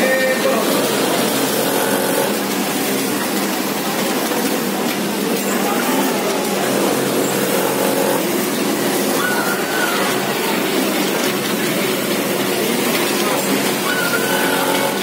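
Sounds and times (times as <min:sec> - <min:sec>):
industrial sewing machines running: 0:00.0 - 0:15.0.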